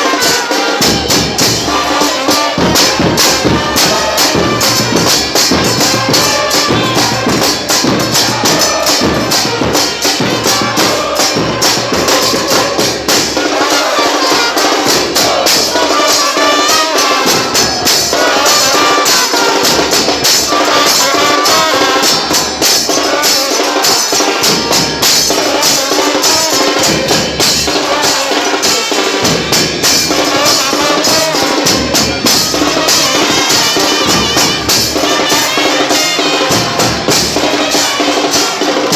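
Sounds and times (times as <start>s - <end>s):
fast drumbeat: 0.0s - 38.9s
football supporters chanting: 0.0s - 38.9s.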